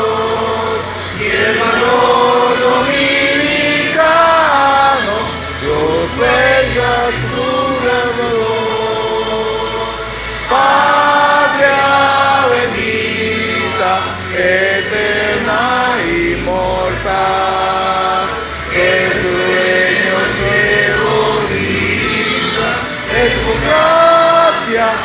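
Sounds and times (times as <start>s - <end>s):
group singing an anthem: 0.0s - 25.0s.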